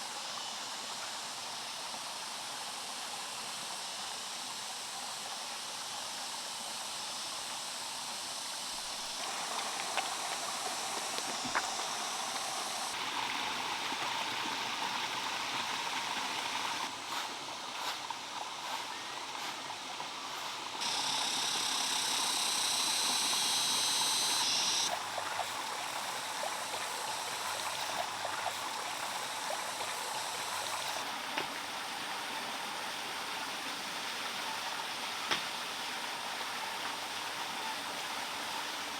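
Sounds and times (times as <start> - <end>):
stream water rushing: 5.7 - 38.9.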